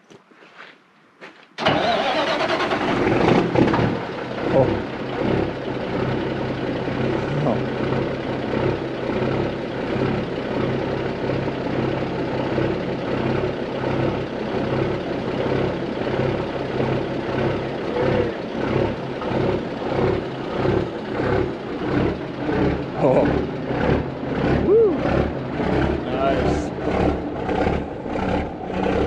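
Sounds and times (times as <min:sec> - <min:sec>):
diesel truck engine idling: 0:01.6 - 0:29.0.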